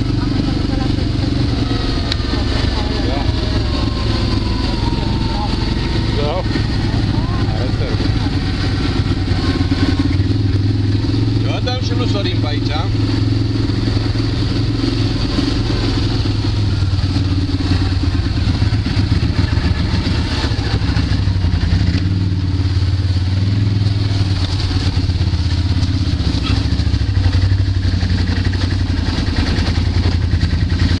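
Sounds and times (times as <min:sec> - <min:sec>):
quad bike engines running: 0:00.0 - 0:31.0.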